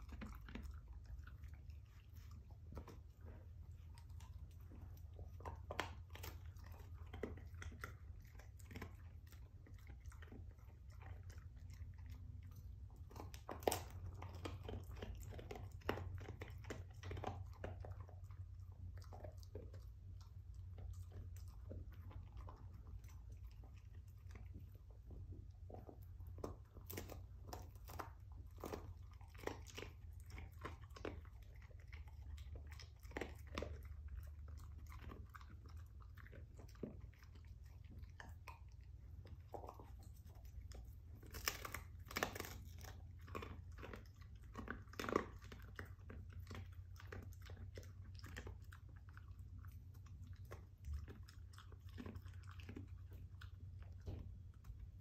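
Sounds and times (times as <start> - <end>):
dog chewing bone: 0.0 - 55.0.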